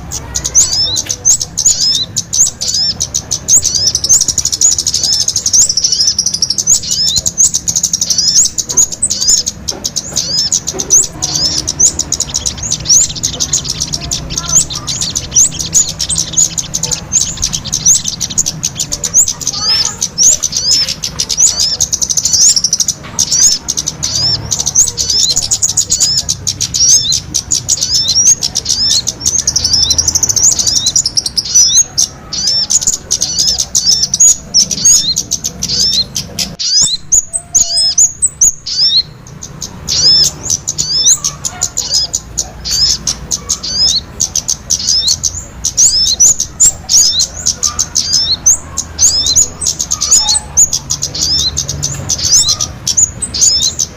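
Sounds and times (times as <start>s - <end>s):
small birds chirping rapidly: 0.0s - 53.9s.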